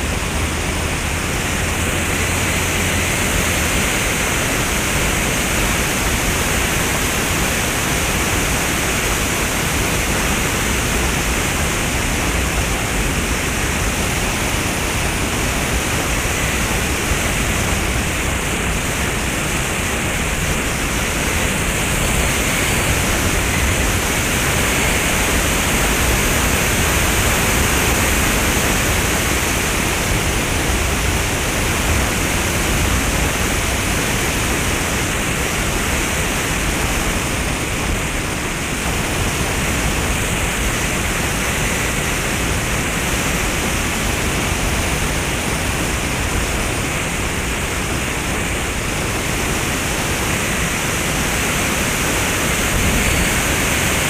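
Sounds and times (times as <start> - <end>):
wind: 0.0 - 54.0.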